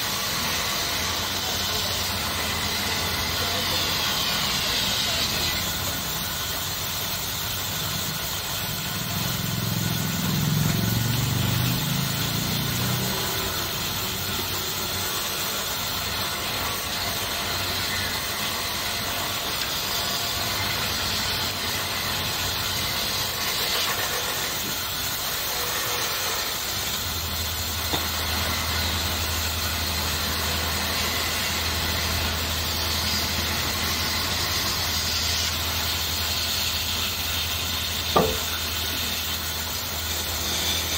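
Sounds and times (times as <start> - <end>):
lathe motor hum: 0.0 - 40.9.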